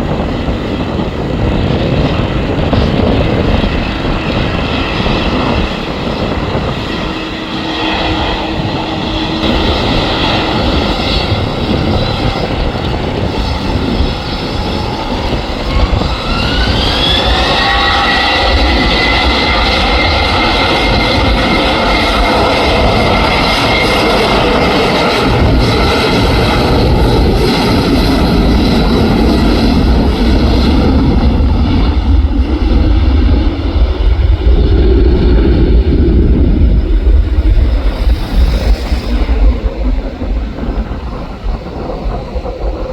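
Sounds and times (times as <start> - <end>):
jet engines whining: 0.0 - 42.9
wind rumbling on microphone: 0.0 - 42.9.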